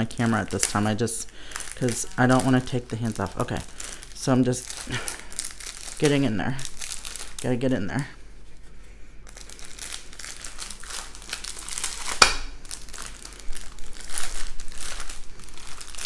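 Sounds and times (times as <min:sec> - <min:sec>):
plastic bags crinkling: 0:00.0 - 0:08.0, 0:09.2 - 0:16.0.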